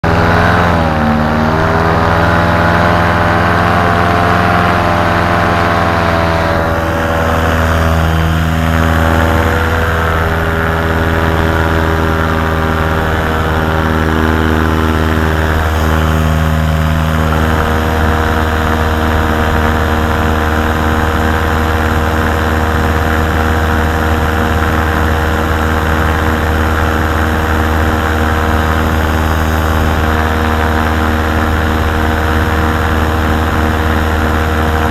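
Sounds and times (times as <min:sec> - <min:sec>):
paramotor engine droning: 0:00.0 - 0:34.9.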